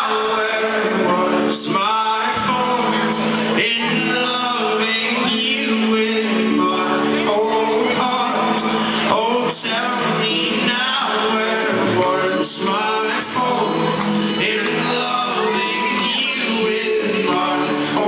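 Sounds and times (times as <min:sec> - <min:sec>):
folk rock band playing: 0:00.0 - 0:18.0
man singing: 0:00.0 - 0:18.0
strummed acoustic guitar: 0:00.0 - 0:18.0.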